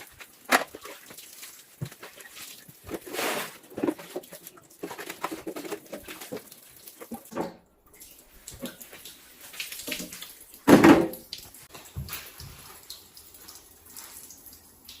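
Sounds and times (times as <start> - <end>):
water splashing and dripping: 0.0 - 15.0.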